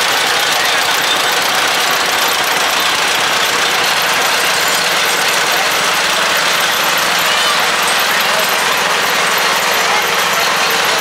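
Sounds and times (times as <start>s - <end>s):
small tractor engines: 0.0s - 11.0s
tractor engine running slowly: 0.0s - 11.0s.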